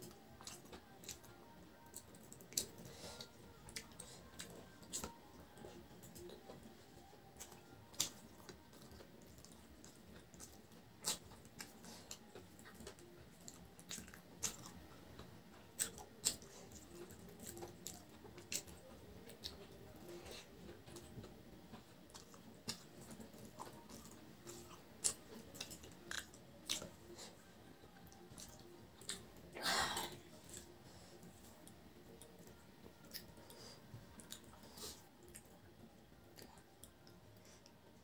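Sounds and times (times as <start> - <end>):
person chewing: 0.4 - 21.1, 21.7 - 35.5.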